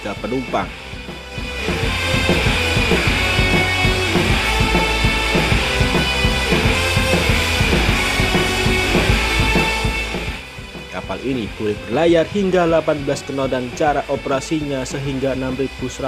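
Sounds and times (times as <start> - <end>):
steady drum beat: 0.0 - 16.0
sustained bass line: 0.0 - 16.0.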